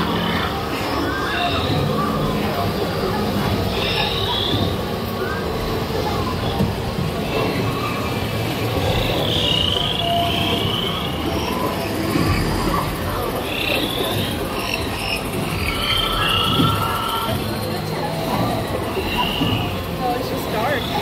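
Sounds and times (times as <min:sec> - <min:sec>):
chirping frog-like calls: 0:00.0 - 0:06.0, 0:07.2 - 0:20.0.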